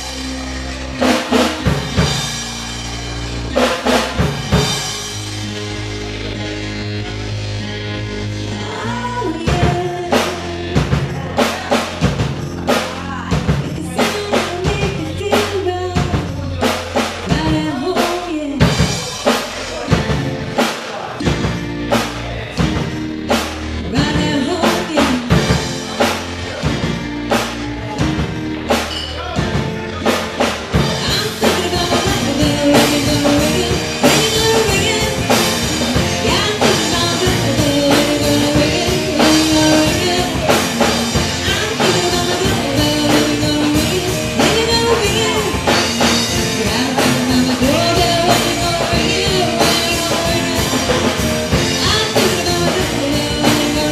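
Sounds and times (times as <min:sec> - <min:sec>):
drum beat: 0:00.0 - 0:05.6, 0:09.0 - 0:53.9
person singing: 0:00.0 - 0:53.9
rock band playing: 0:00.0 - 0:53.9.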